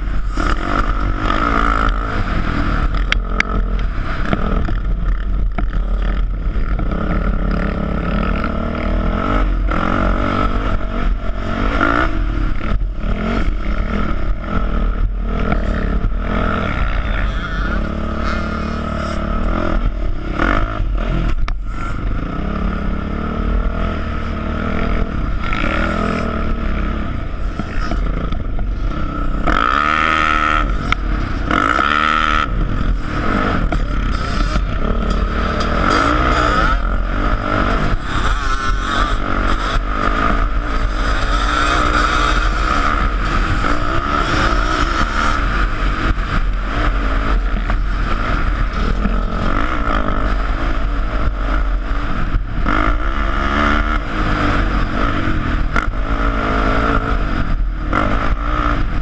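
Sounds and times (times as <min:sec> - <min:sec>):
atv engine revving: 0:00.0 - 0:59.0
wind rumbling on microphone: 0:00.0 - 0:59.0.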